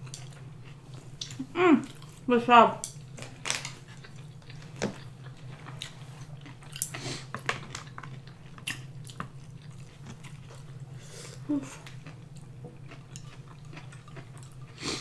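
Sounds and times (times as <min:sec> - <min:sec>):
chewing with lip smacks: 0:00.0 - 0:02.3, 0:03.8 - 0:15.0
steady low hum: 0:00.0 - 0:15.0.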